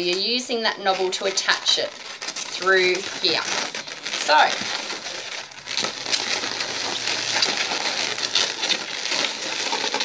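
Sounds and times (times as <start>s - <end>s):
balloons rubbing and squeaking: 0.0s - 10.0s.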